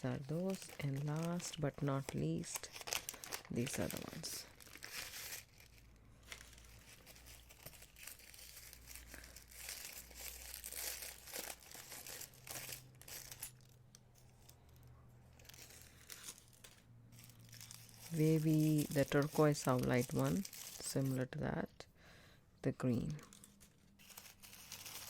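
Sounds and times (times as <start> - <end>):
packaging crinkling and rustling: 0.0 - 21.2, 23.0 - 25.0.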